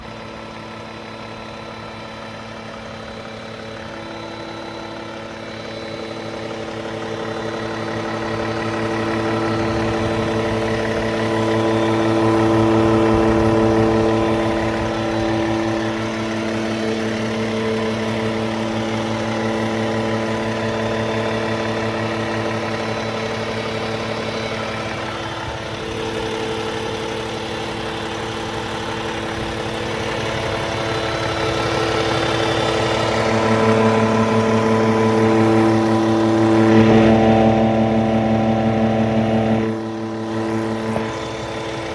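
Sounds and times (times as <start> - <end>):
diesel engine idling: 0.0 - 41.9
steady buzzing tone: 3.6 - 41.9.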